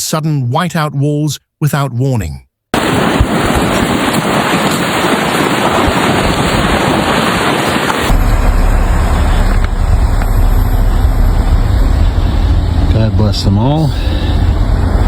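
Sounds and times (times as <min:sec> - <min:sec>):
road noise: 0:02.8 - 0:15.0
rough rushing noise: 0:02.8 - 0:15.0
vehicle engine rumble: 0:02.8 - 0:15.0.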